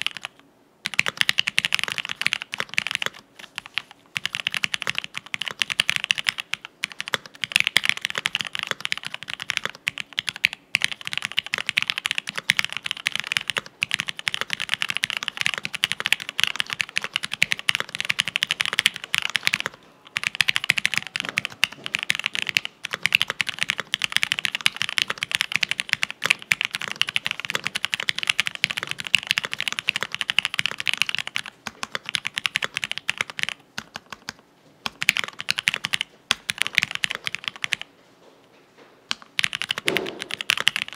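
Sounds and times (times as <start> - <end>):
fast mechanical keyboard typing: 0.0 - 37.9, 39.1 - 40.9.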